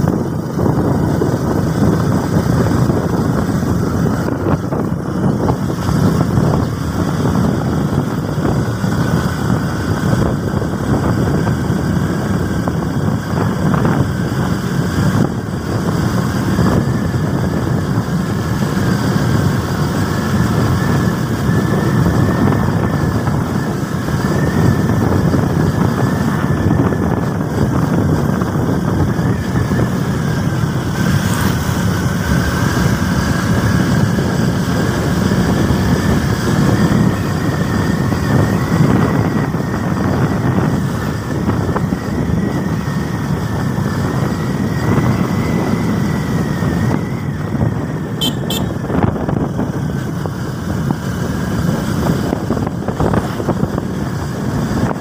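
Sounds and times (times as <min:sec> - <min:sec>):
motorcycle engine running: 0:00.0 - 0:55.0
wind and road rush: 0:00.0 - 0:55.0.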